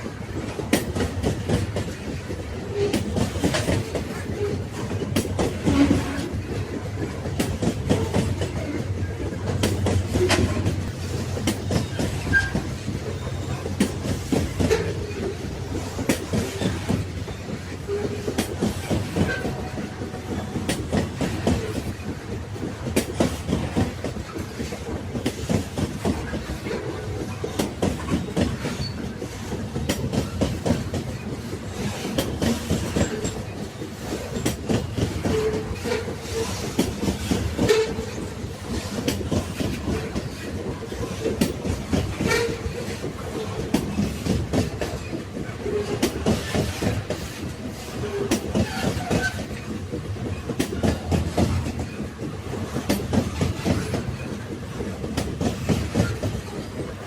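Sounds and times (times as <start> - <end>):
railway carriages rumbling: 0.0 - 57.0
train wheels clattering on rails: 0.0 - 57.0.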